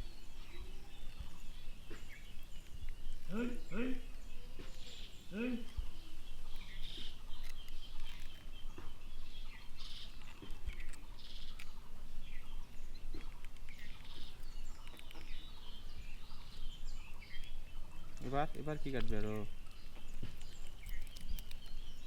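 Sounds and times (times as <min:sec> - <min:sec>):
birds chirping: 0:00.0 - 0:22.0
outdoor background hiss: 0:00.0 - 0:22.0.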